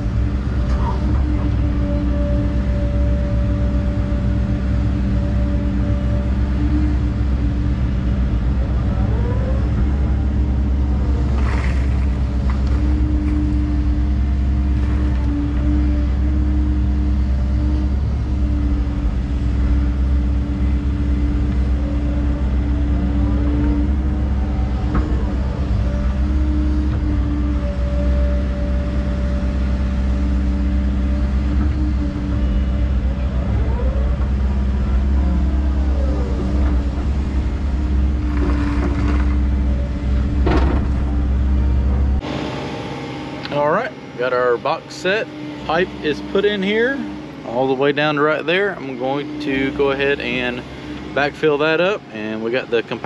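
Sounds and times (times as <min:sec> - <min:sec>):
excavator diesel engine running: 0:00.0 - 0:53.0
hydraulic whine: 0:00.0 - 0:53.0.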